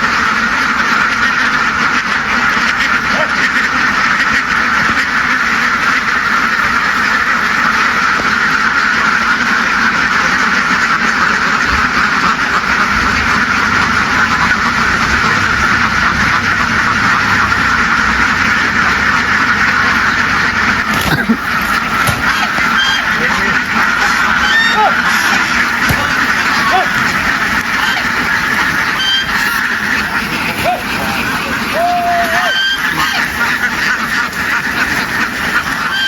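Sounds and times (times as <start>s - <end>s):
flock of ducks quacking: 0.0s - 36.0s.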